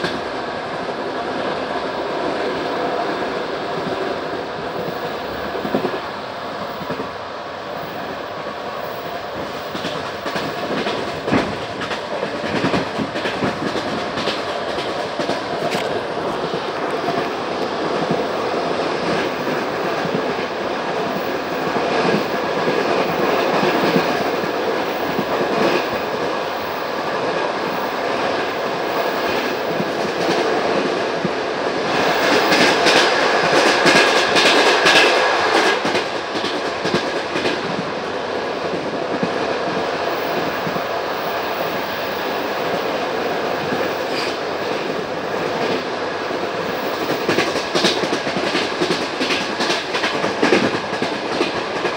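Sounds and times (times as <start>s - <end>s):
train wheels clattering over rails: 7.8s - 51.9s.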